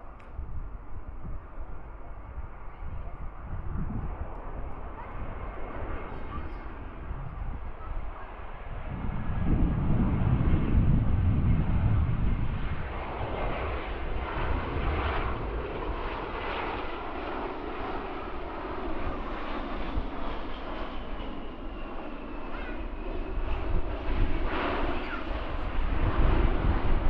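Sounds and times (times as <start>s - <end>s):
jet engines rushing: 3.2s - 27.0s.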